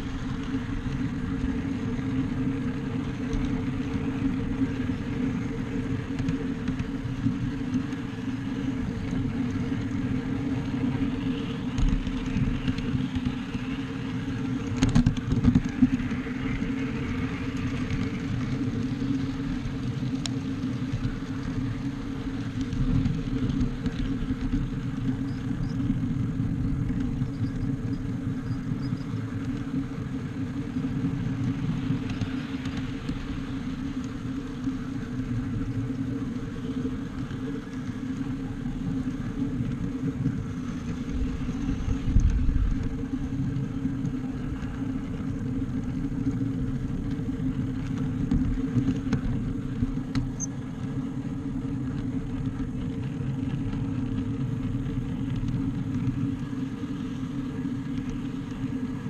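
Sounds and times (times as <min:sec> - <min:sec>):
constant hum: 0:00.0 - 0:59.0
model train wheels rumbling: 0:00.0 - 0:59.0.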